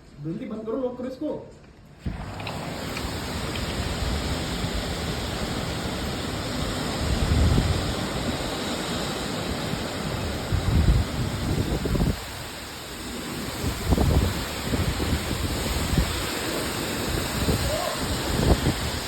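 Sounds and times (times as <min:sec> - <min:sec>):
heavy rain pouring: 0:02.0 - 0:19.0
wind gusts buffeting microphone: 0:02.0 - 0:19.0.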